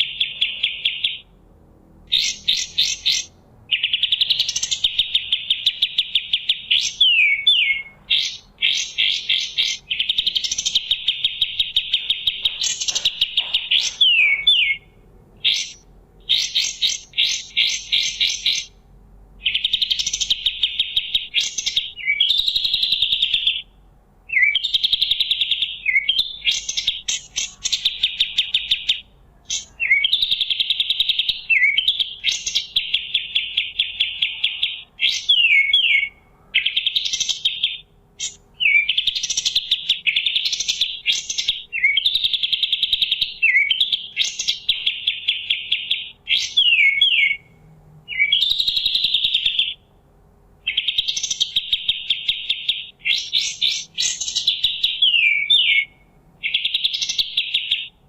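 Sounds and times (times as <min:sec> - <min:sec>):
bird singing fast trills: 0:00.0 - 0:01.4, 0:02.0 - 0:58.0.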